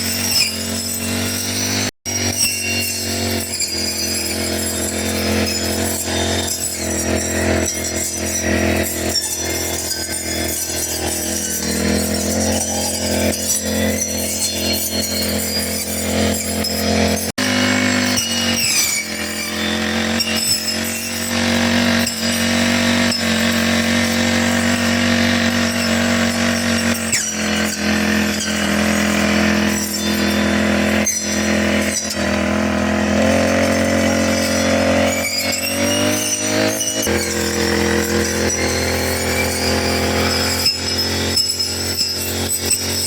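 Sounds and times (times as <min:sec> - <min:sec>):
brush cutter engine cutting grass: 0:00.0 - 0:43.0.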